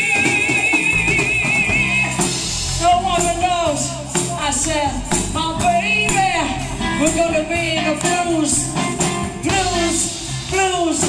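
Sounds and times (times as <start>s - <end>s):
bass guitar: 0.0s - 11.0s
drums keeping a beat: 0.0s - 11.0s
electric guitar: 0.0s - 11.0s.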